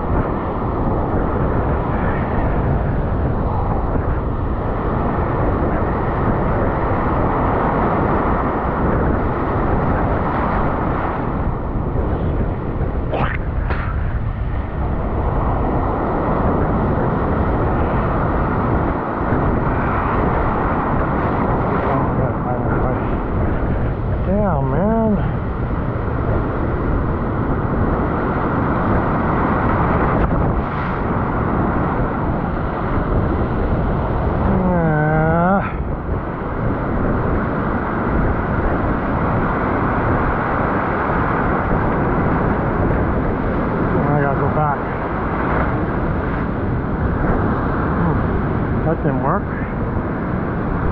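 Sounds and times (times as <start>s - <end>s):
breaking surf and whitewater: 0.0s - 50.9s
wind buffeting microphone: 0.0s - 50.9s.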